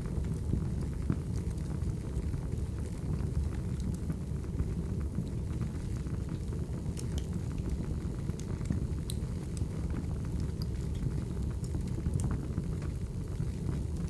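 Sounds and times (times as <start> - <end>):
fire crackles and pops: 0.0 - 14.0
fire low rumble: 0.0 - 14.0.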